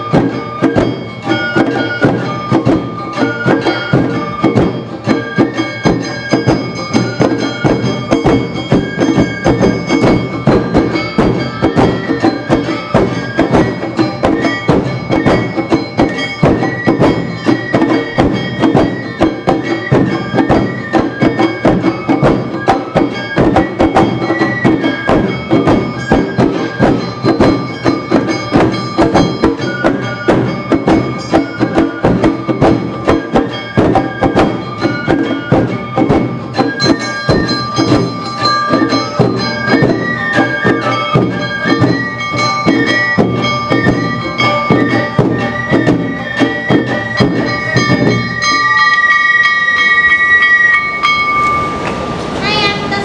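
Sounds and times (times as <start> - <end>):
bamboo flutes: 0.0 - 51.8
shamisen: 0.0 - 52.1
bell-gong strikes: 0.0 - 53.0
taiko drums: 0.0 - 53.0.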